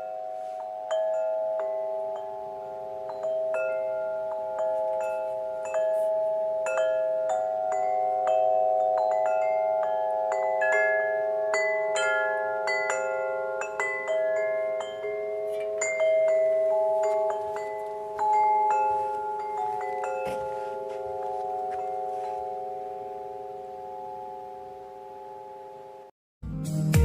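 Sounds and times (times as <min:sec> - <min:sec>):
wind chime ringing: 0:00.0 - 0:26.1.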